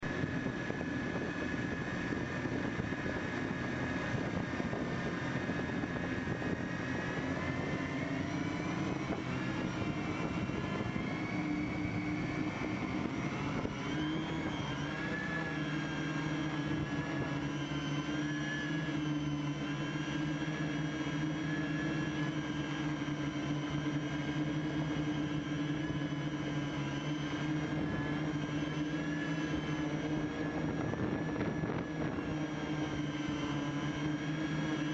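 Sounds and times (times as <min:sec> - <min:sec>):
quadcopter propellers whining: 0:00.0 - 0:34.9.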